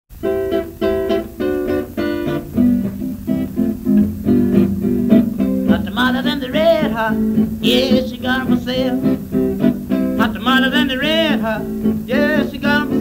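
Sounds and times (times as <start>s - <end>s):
acoustic guitar blues: 0.1s - 13.0s.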